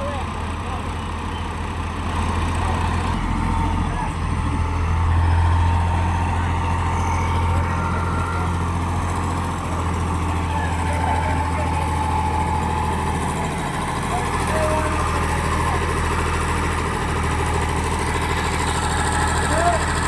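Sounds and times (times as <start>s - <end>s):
engine droning with whine: 0.0s - 20.0s.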